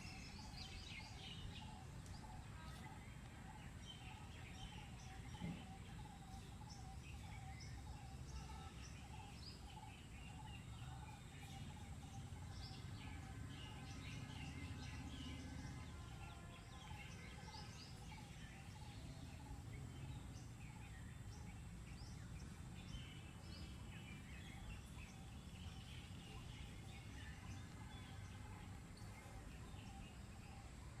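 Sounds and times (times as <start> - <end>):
birds chirping and calling: 0.0 - 31.0
low steady background rumble: 0.0 - 31.0.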